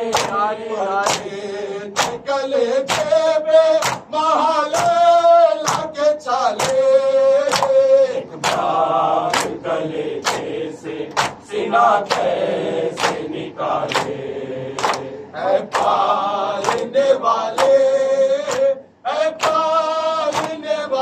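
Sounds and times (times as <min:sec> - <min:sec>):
men singing a lament: 0:00.0 - 0:21.0
crowd slapping chests: 0:00.1 - 0:06.0, 0:06.6 - 0:06.9, 0:07.5 - 0:07.8, 0:08.4 - 0:19.7, 0:20.3 - 0:20.7.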